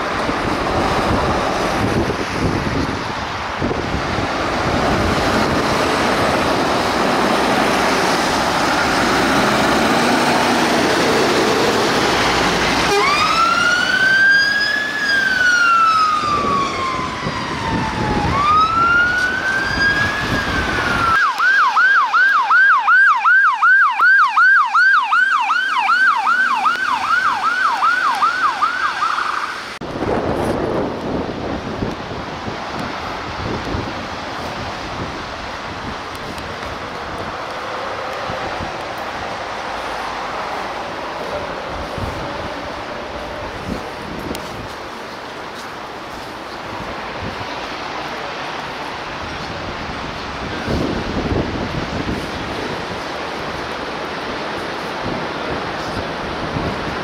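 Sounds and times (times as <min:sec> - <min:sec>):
emergency vehicle siren: 0:00.0 - 0:29.9, 0:31.2 - 0:47.4
wind and road noise: 0:00.0 - 0:57.0.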